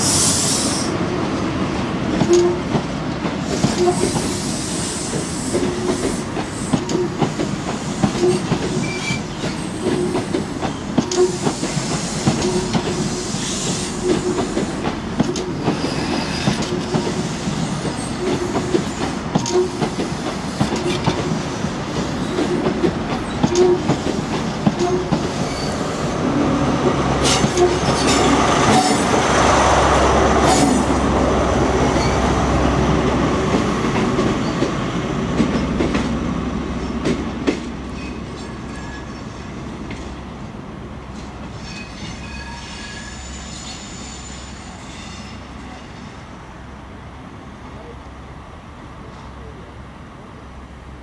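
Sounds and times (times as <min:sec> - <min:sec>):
train coaches rumbling past: 0:00.0 - 0:51.0.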